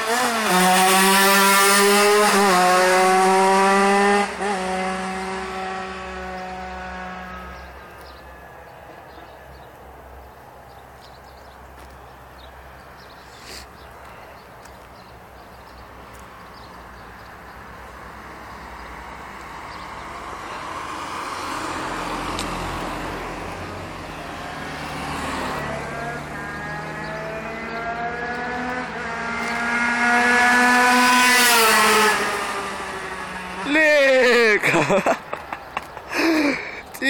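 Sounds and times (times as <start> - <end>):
quieter vehicle passing: 0.0 - 37.0.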